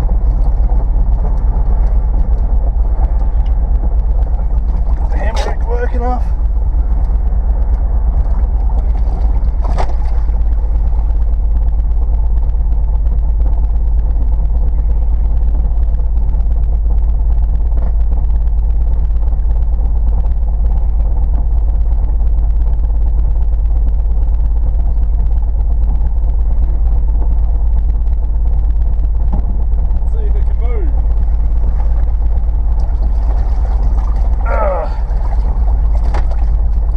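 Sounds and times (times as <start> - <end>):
car engine running: 0.0 - 36.9.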